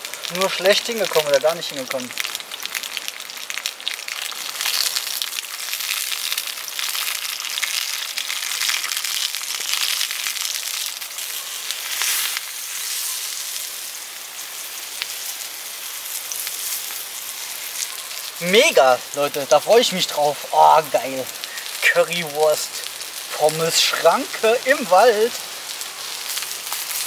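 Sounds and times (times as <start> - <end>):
sausages sizzling in a pan: 0.0 - 27.0
wood fire crackling: 0.0 - 27.0.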